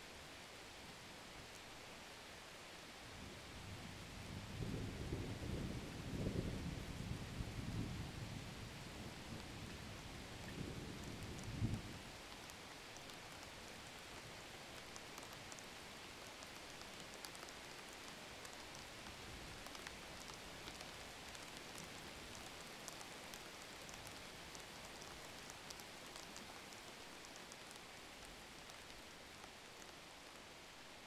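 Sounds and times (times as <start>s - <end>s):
faint steady rain: 0.0s - 31.0s.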